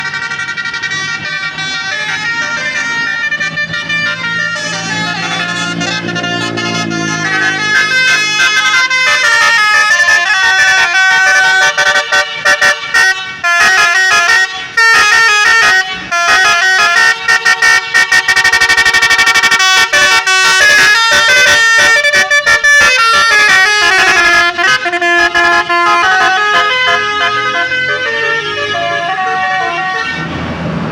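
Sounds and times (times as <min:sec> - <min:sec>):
multi-tone musical bus horn: 0:00.0 - 0:30.9.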